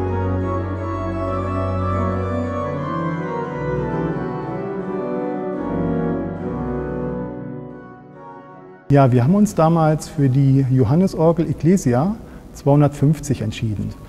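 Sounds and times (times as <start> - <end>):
church organ chords: 0.0 - 14.0.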